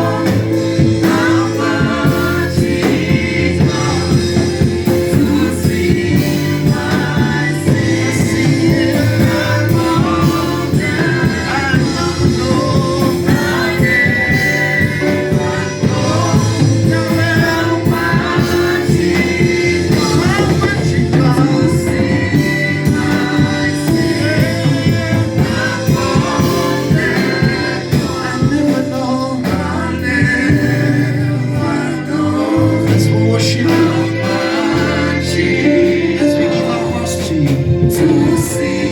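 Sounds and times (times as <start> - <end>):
band with driving beat: 0.0 - 38.9
gospel choir singing: 0.0 - 38.9.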